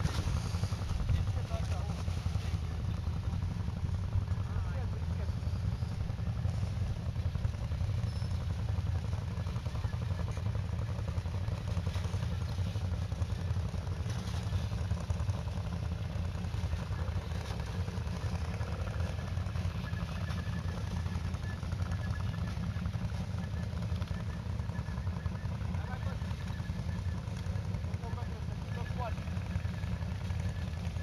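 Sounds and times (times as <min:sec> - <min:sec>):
atv engine rumbling: 0:00.0 - 0:31.0.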